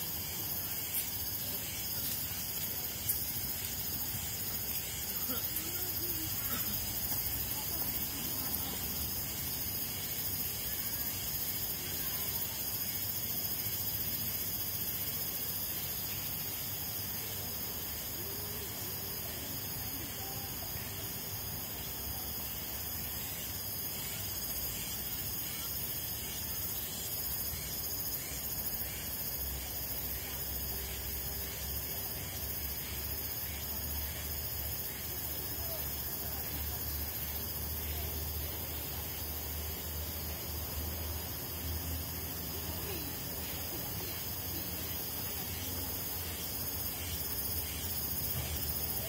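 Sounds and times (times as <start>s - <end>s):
steady high hiss: 0.0s - 49.0s.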